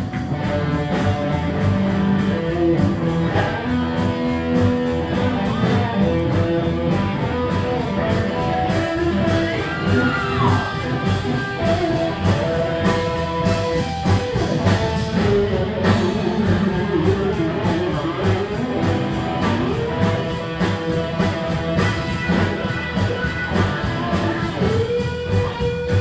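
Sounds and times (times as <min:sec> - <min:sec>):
electric guitars bending notes: 0:00.0 - 0:26.0
live blues band playing: 0:00.0 - 0:26.0.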